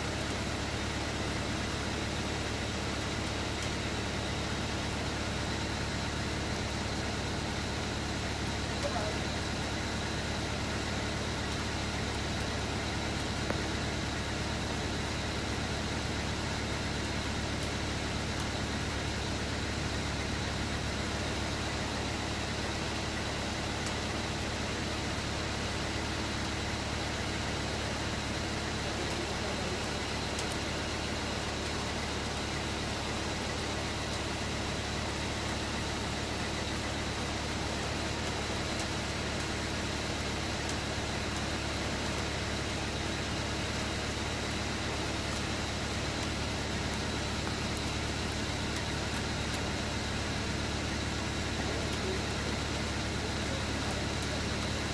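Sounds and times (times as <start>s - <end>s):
turbo engine idling: 0.0s - 54.9s.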